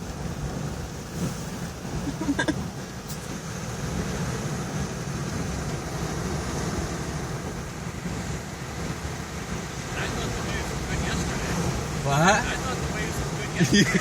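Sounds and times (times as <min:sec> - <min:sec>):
heavy surf roaring: 0:00.0 - 0:14.0
storm wind: 0:00.0 - 0:14.0
wind buffeting microphone: 0:00.0 - 0:14.0.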